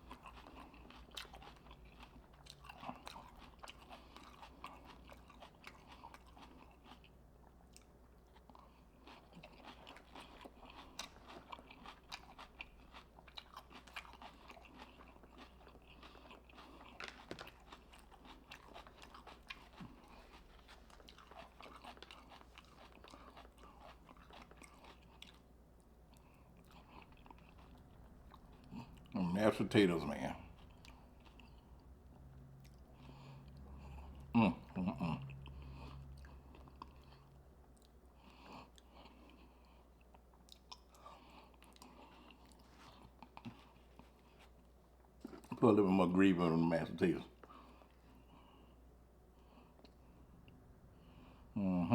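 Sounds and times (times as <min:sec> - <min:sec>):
person chewing food: 0:00.0 - 0:45.6, 0:47.2 - 0:51.6.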